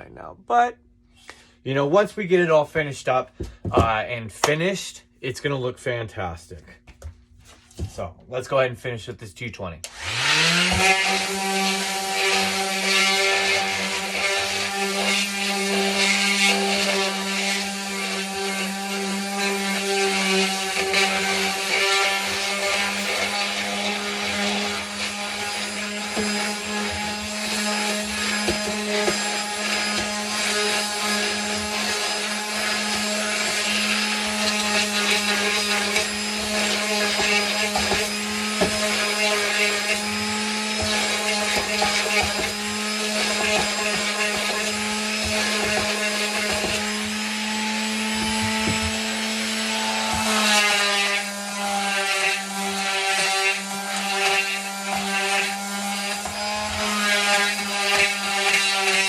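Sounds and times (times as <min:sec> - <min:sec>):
electric sander on wood: 0:09.9 - 0:59.0.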